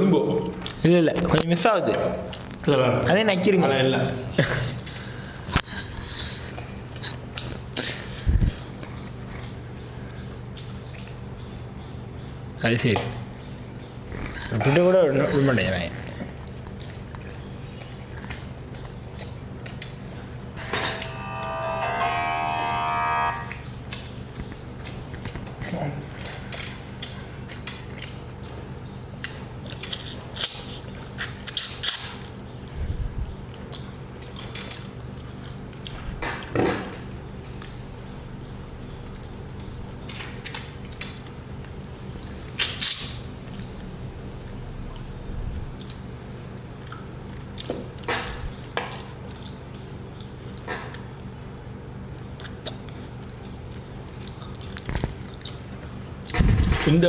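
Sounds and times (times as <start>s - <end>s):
steady low hum: 3.8s - 57.0s
wet chewing and smacking: 4.8s - 20.5s, 23.5s - 56.4s.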